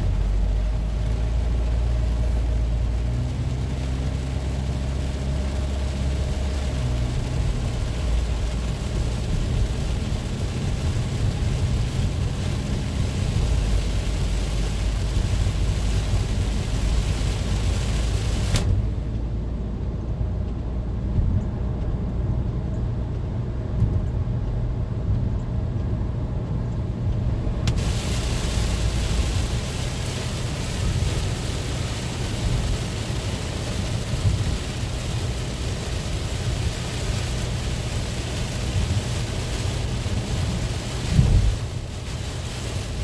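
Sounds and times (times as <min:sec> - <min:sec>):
heavy rain hissing: 0:00.0 - 0:19.1, 0:27.4 - 0:43.0
steady low rumble: 0:00.0 - 0:43.0.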